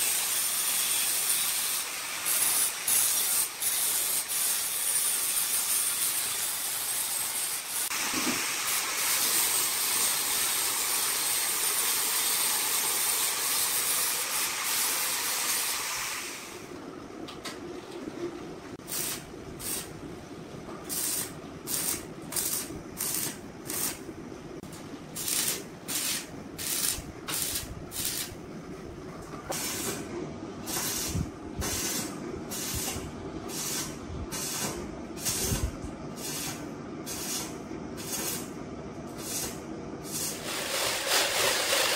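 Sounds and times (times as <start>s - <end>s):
arc welder crackling: 0.0s - 16.6s, 18.8s - 20.1s, 20.8s - 28.4s, 30.6s - 41.9s.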